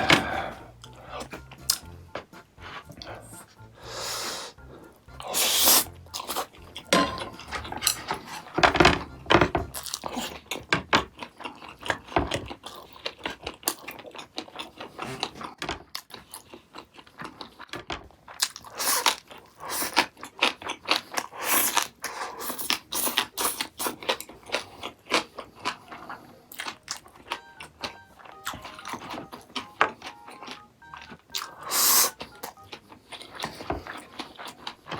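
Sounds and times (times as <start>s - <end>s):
person chewing and crunching food: 0.0s - 34.9s.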